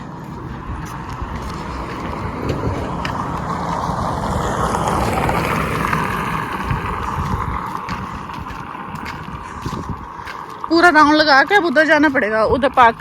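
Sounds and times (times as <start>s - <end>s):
vehicle passing by: 0.0s - 13.0s
wind buffeting microphone: 0.0s - 13.0s.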